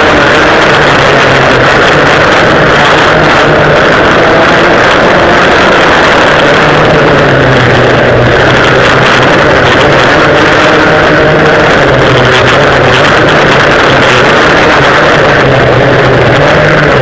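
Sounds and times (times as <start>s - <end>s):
kart engine drone: 0.0s - 17.0s
other kart engines nearby: 0.0s - 17.0s.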